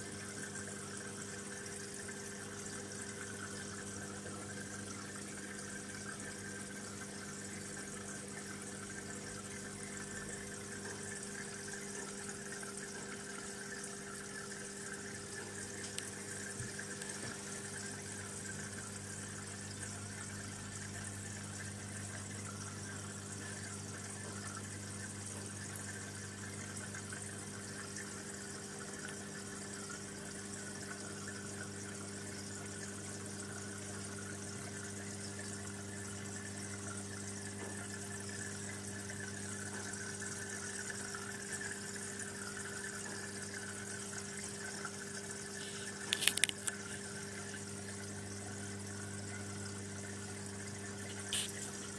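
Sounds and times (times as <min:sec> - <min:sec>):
aquarium pump humming: 0:00.0 - 0:51.9
water trickling and bubbling: 0:00.0 - 0:51.9.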